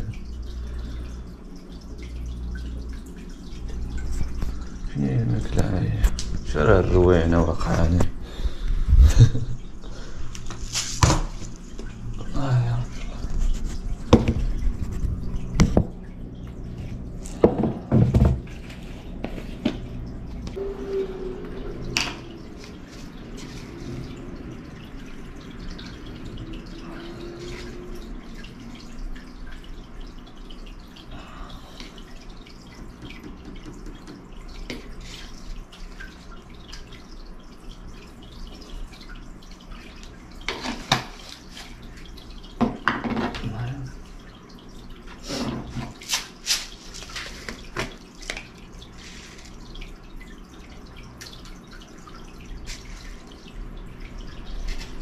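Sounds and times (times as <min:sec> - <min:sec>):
low steady hum: 0:00.0 - 0:55.0
water dripping and running in sink: 0:00.0 - 0:55.0.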